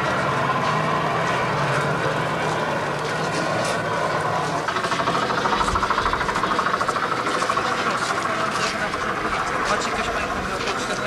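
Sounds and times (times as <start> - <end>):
street noise: 0.0 - 11.0
vehicle engine running: 0.0 - 11.0.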